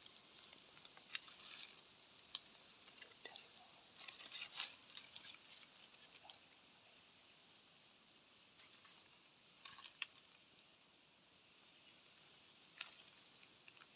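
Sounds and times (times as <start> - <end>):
faint small clicks and rustles: 0.0 - 7.1, 8.5 - 10.7, 11.9 - 13.9.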